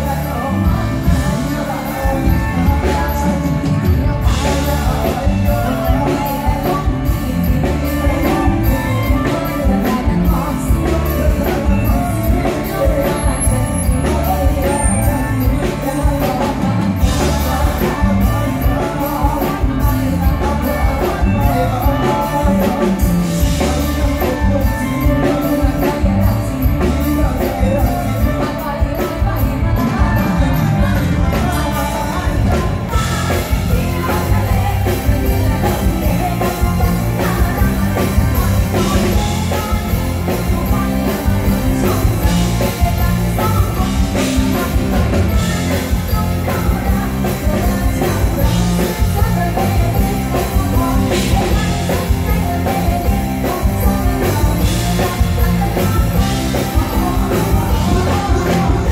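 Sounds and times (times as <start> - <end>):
live band with drums: 0.0 - 58.9
woman singing into microphone: 0.0 - 58.9.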